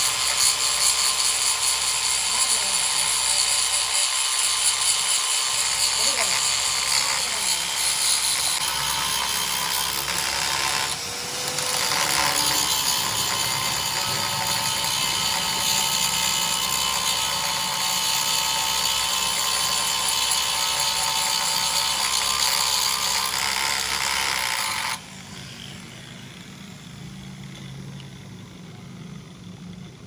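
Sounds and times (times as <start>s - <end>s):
power tool whining: 0.0s - 30.0s.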